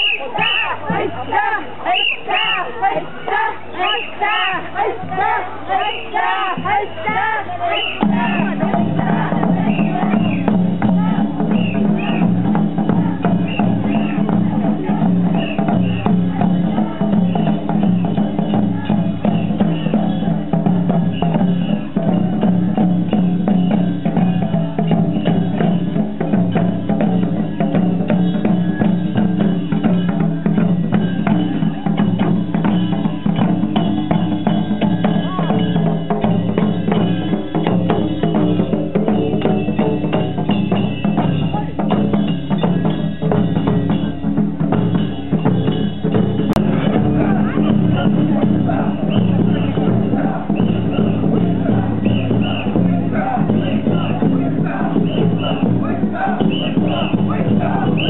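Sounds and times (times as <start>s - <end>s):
festival drumming and percussion: 0.0s - 58.0s.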